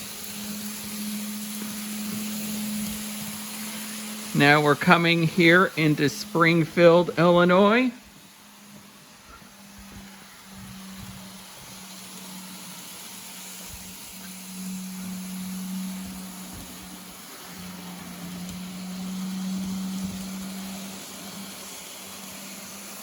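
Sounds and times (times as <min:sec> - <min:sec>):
model locomotive motor hum: 0:00.0 - 0:23.0.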